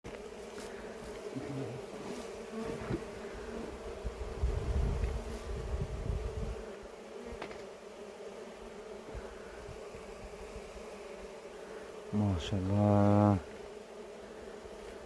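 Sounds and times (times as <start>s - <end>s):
honeybees buzzing: 0.1s - 15.0s.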